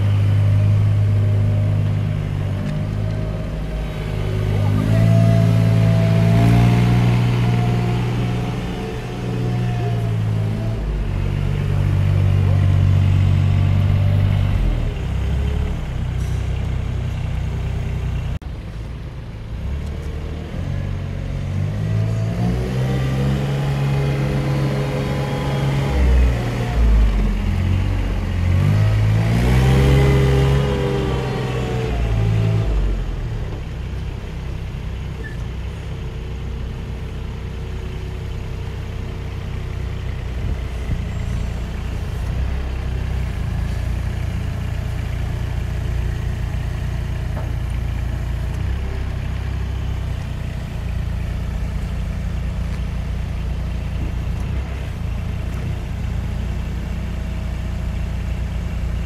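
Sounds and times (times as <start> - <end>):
diesel engine revving: 0.0 - 18.4, 19.5 - 59.0.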